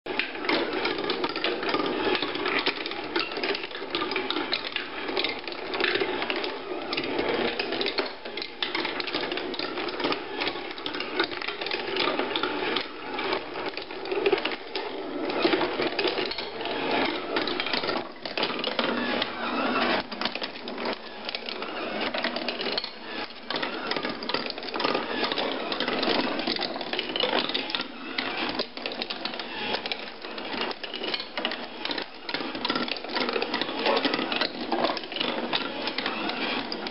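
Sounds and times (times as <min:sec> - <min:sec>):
marbles rolling on wooden tracks: 0:00.1 - 0:36.9.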